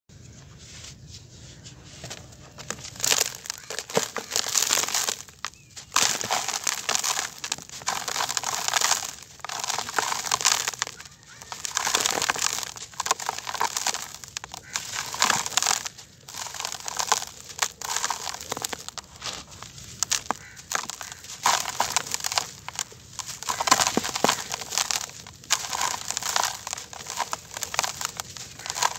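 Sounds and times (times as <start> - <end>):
sand and gravel crunching by hand: 0.6 - 28.9
grit pouring through fingers: 2.7 - 28.9.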